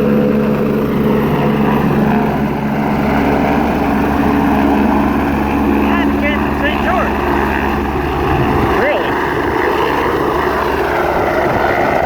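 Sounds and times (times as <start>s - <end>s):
helicopter rotor and turbine: 0.0s - 12.0s.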